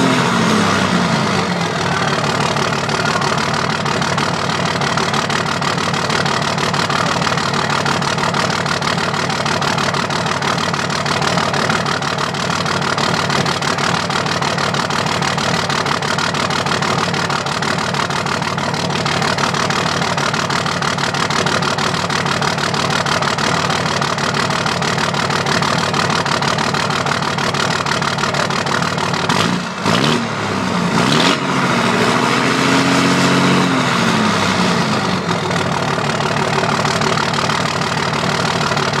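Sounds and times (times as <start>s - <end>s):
diesel engine idling and revving: 0.0s - 39.0s.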